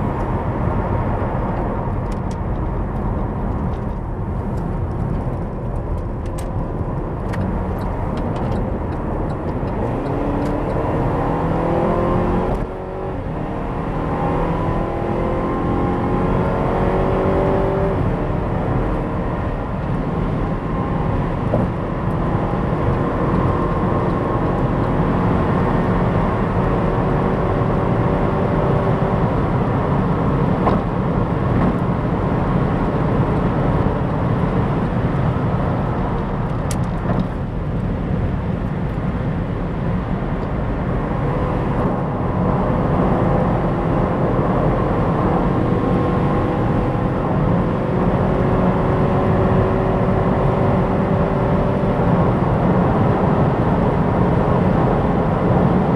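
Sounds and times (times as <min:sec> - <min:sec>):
car engine drone: 0:00.0 - 0:55.9
road and wind noise: 0:00.0 - 0:55.9.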